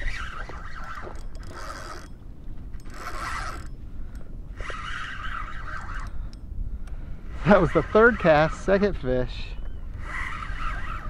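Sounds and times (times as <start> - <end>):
fishing reel raspy winding: 0.0 - 6.5, 7.3 - 11.0.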